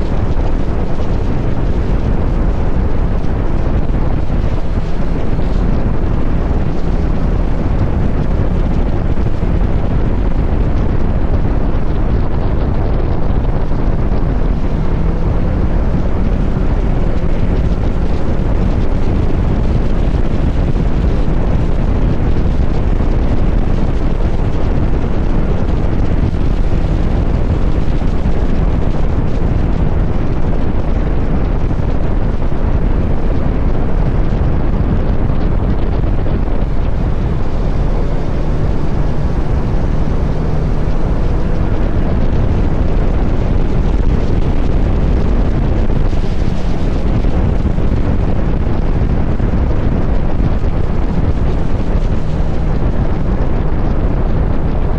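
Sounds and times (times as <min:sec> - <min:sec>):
motorcycle engine running: 0:00.0 - 0:54.9
wind rush on microphone: 0:00.0 - 0:54.9.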